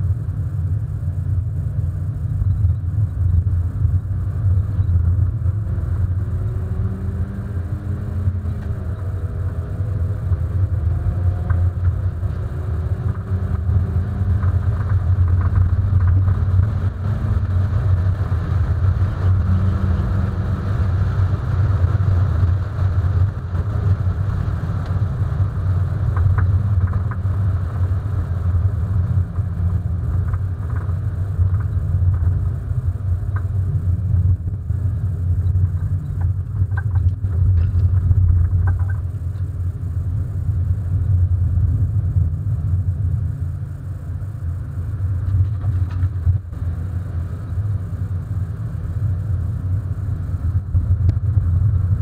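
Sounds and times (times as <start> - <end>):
car engine rumbling: 0.0 - 52.0
road noise: 0.0 - 52.0.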